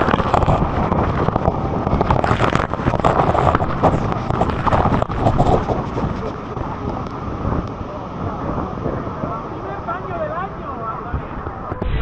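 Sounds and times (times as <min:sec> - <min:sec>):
water pelting the microphone: 0:00.0 - 0:12.0
waterfall rushing: 0:00.0 - 0:12.0
wind buffeting: 0:00.0 - 0:12.0.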